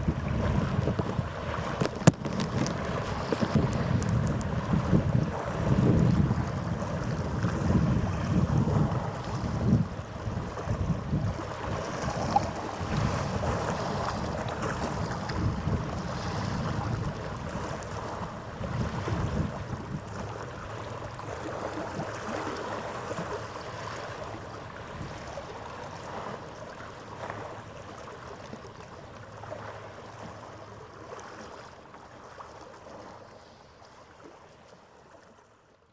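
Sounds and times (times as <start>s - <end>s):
water noise: 0.0s - 35.8s
wind: 0.0s - 35.9s.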